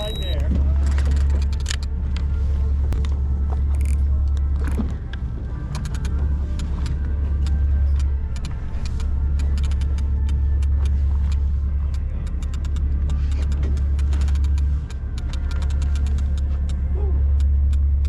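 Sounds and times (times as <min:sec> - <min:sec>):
boat engine droning: 0:00.0 - 0:18.0
small clicks and rattles: 0:03.0 - 0:18.0.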